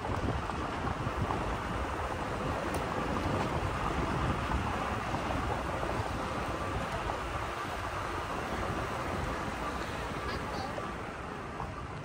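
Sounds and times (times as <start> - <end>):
truck engine running: 0.0 - 12.0
tyres rolling over gravel: 0.0 - 12.0
wind buffeting microphone: 0.0 - 12.0.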